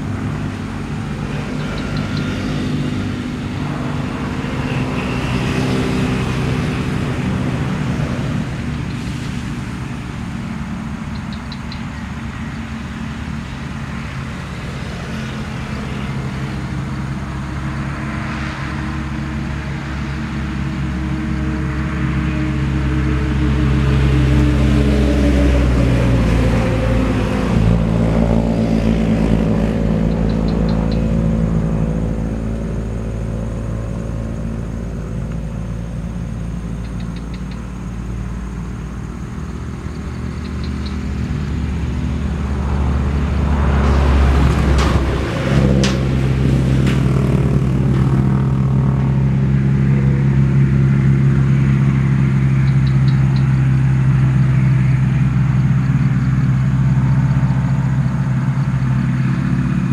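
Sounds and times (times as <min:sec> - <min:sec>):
vehicle engines droning: 0:00.0 - 0:59.9.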